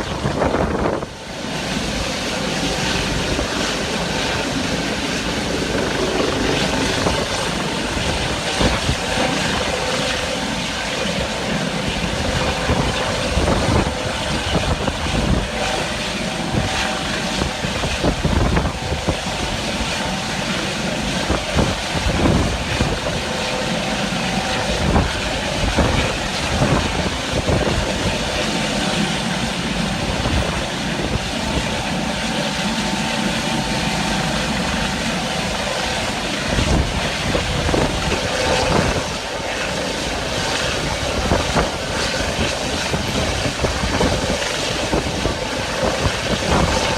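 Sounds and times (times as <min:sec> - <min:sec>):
helicopter hovering: 0:00.0 - 0:46.9
wind buffeting microphone: 0:00.0 - 0:46.9.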